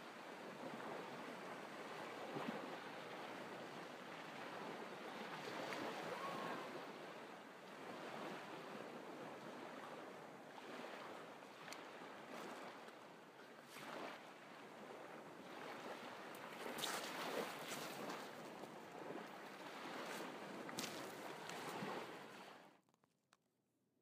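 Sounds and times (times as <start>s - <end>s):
small waves breaking on a beach: 0.0s - 22.7s.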